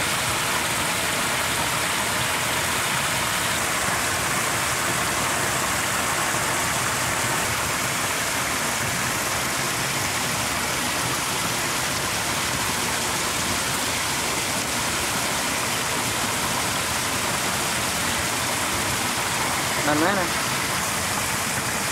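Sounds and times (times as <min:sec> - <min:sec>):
flowing water rushing: 0:00.0 - 0:21.9.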